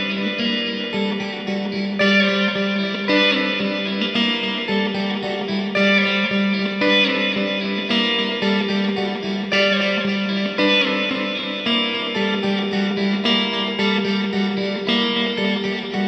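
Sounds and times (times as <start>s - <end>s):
electric guitar music with effects: 0.0s - 16.0s.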